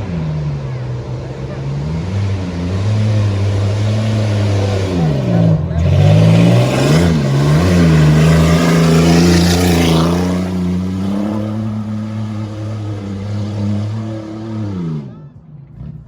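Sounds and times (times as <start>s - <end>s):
car engine pulling under load: 0.0s - 16.0s.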